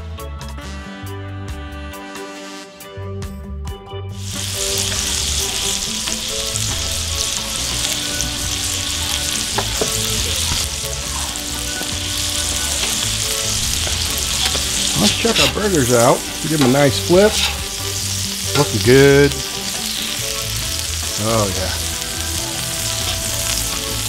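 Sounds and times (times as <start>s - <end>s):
faint background music: 4.1s - 24.0s
burger patties sizzling: 4.2s - 24.0s.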